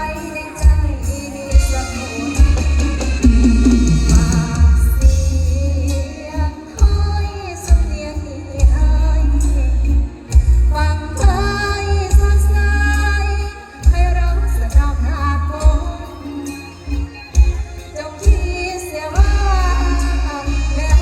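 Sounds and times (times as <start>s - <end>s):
band with heavy bass beat: 0.0s - 21.0s
woman singing: 0.0s - 21.0s.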